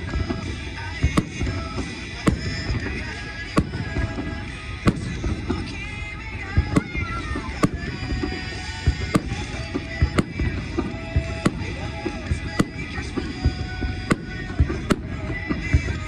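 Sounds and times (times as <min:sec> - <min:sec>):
firework shells bursting: 0:00.0 - 0:16.0.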